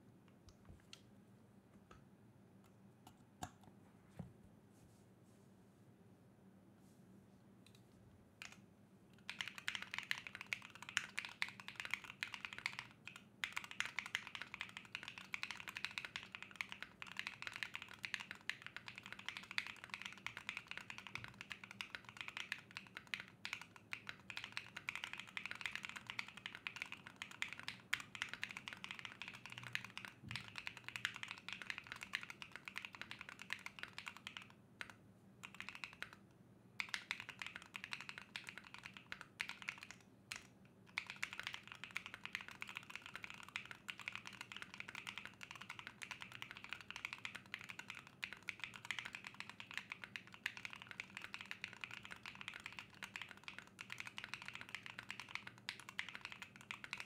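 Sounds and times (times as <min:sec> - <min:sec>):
mechanical keyboard typing: 0:09.2 - 0:36.2, 0:36.8 - 0:57.0.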